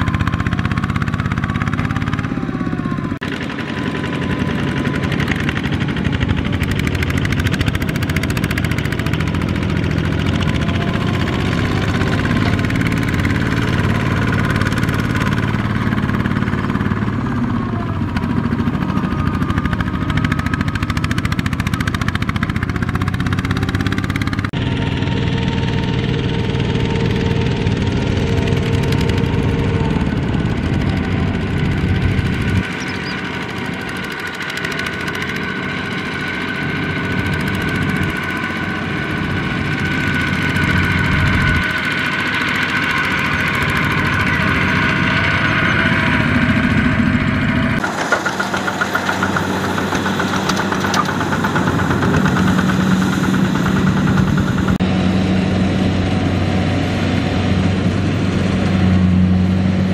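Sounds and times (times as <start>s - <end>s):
diesel tiller engine running: 0.0s - 59.9s.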